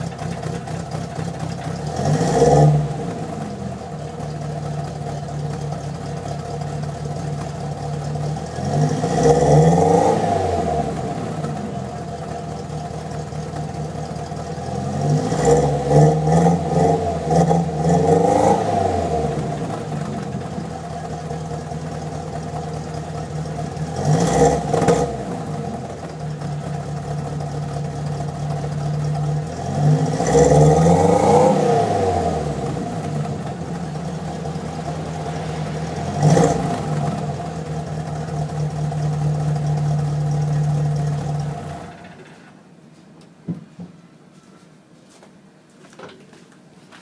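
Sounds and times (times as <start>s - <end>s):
car engine idling and revving: 0.0s - 42.4s.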